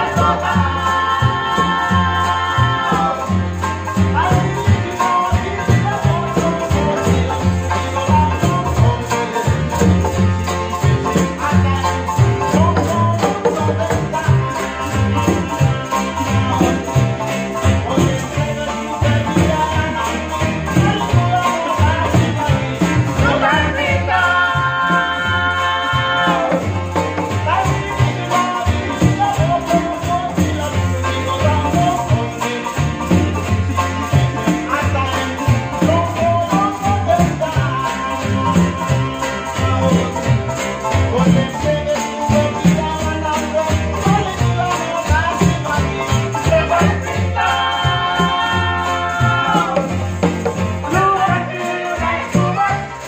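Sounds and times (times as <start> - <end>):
group of men singing: 0.0 - 53.0
one-string bass thumping steadily: 0.0 - 53.0
strummed acoustic guitars: 0.0 - 53.0.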